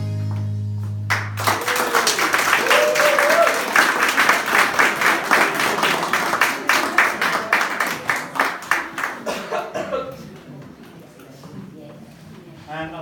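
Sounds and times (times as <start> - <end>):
people clapping: 0.3 - 11.0.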